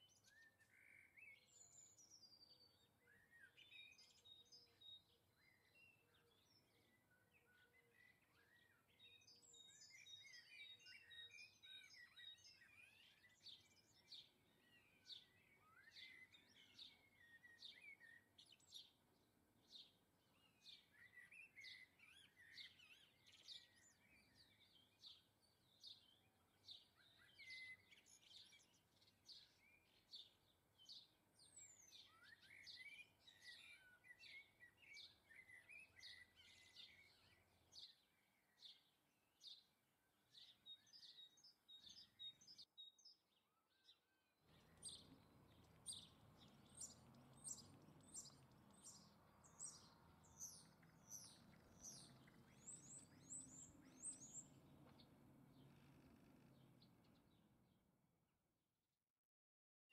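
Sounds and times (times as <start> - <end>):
small birds chirping: 0.0 - 58.1.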